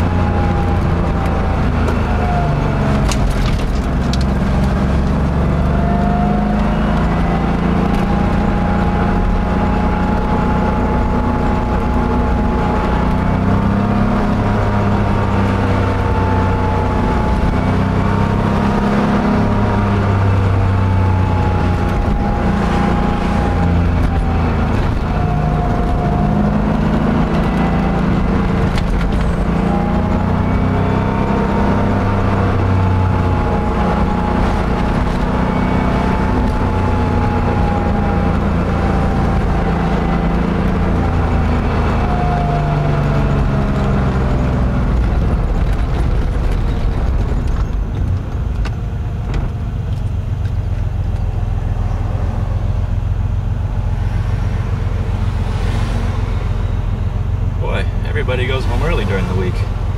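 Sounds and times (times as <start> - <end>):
car engine from inside: 0.0 - 59.9.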